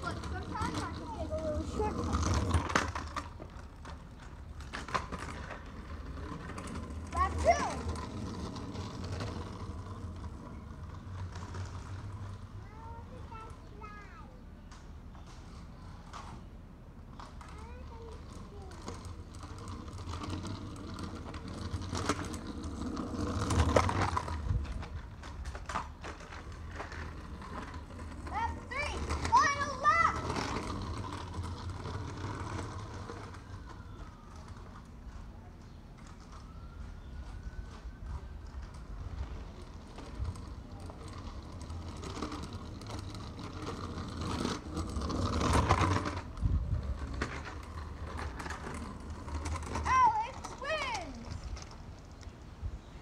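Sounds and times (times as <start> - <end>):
scooter wheels rolling on asphalt: 0.0 - 53.0.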